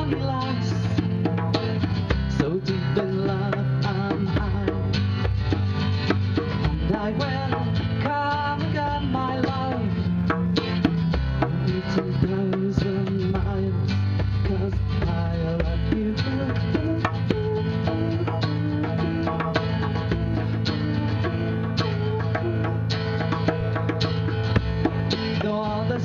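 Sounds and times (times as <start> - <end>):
acoustic guitar: 0.0 - 26.0
hand drum beat: 0.0 - 26.0.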